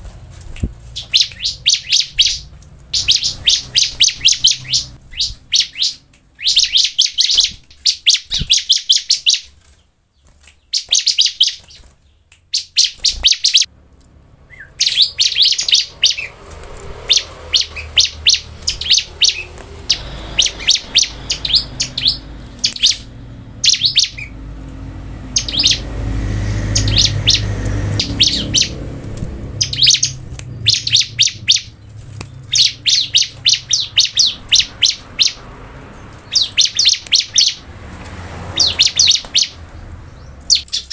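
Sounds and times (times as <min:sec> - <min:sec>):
bird singing high sharp chirps: 0:00.8 - 0:09.6, 0:10.2 - 0:13.7, 0:14.4 - 0:24.5, 0:25.2 - 0:37.7, 0:38.4 - 0:40.9.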